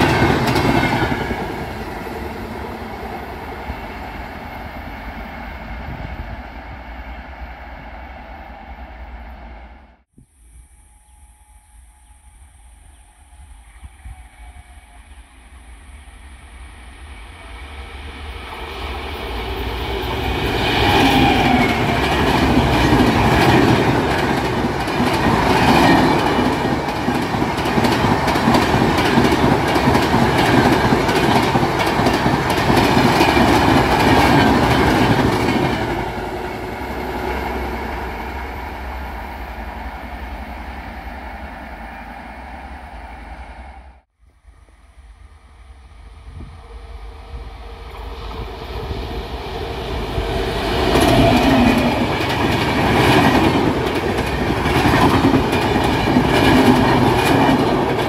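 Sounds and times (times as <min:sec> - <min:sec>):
passenger train passing: 0:00.0 - 0:10.1, 0:11.1 - 0:58.0.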